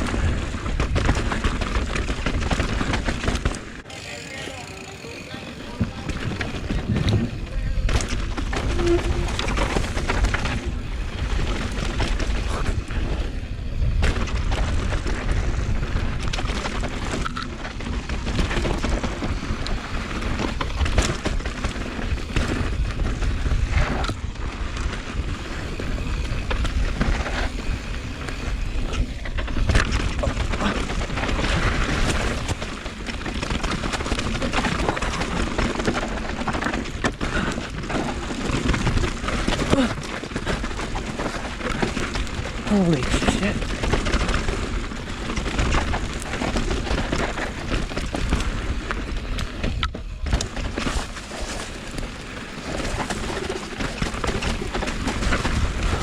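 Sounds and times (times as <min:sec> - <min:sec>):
bike tyres and frame clattering: 0:00.0 - 0:56.0
wind rumble on microphone: 0:05.8 - 0:56.0.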